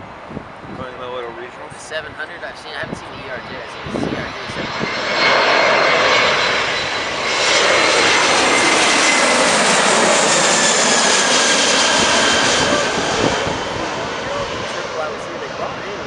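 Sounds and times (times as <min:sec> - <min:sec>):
faint jet engine whine: 0:00.0 - 0:16.0
jet engines rushing: 0:00.0 - 0:16.0.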